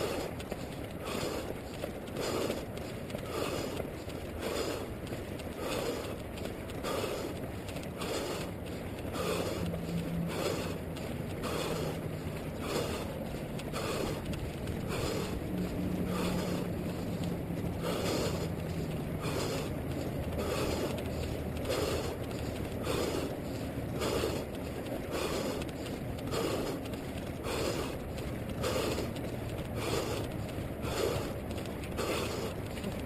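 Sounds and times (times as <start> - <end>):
runner's rhythmic breathing: 0.0 - 33.0.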